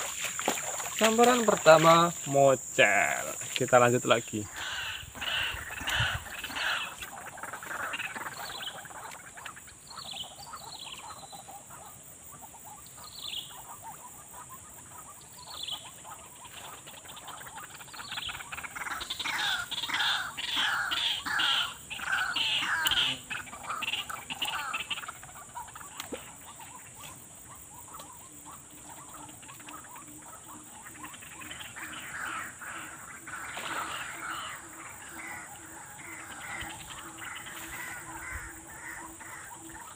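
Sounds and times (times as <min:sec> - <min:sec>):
birds chirping: 0:00.0 - 0:39.9
frogs calling: 0:00.0 - 0:39.9
rapid repeated calls: 0:00.0 - 0:39.9.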